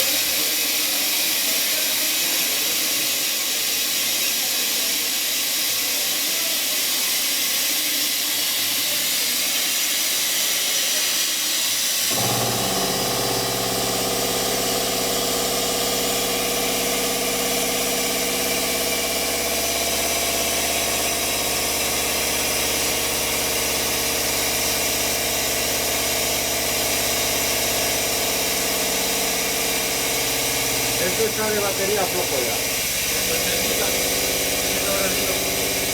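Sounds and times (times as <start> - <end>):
milling machine hissing: 0.0 - 35.9
motor hum with steady tones: 0.0 - 35.9.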